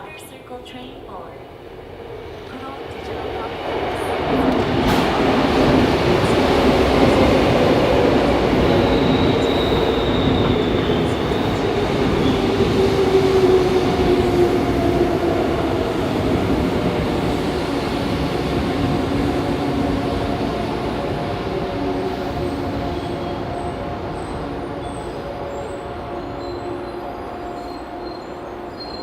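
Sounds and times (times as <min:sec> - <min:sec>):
wheels rumbling on rail: 0:02.0 - 0:29.0.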